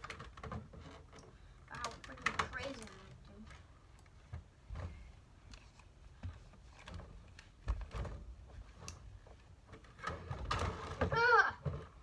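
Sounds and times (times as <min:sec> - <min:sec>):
clicks and knocks of objects handled: 0:00.0 - 0:12.0.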